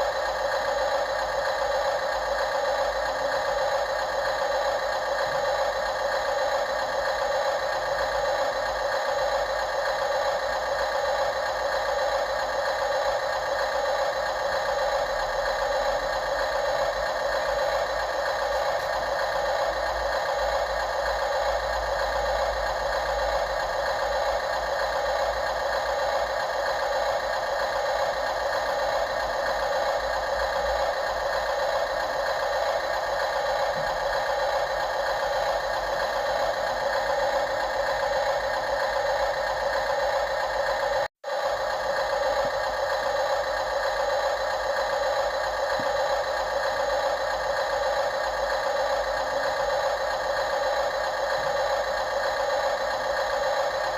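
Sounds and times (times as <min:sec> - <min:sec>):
engine-like drone with rattle: 0:00.0 - 0:53.9.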